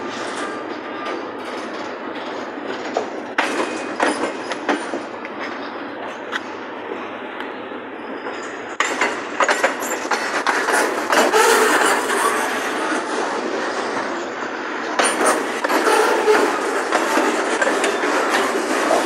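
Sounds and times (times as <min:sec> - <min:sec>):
freight train wheels clacking: 0:00.0 - 0:19.0
train rolling rumble: 0:00.0 - 0:19.0.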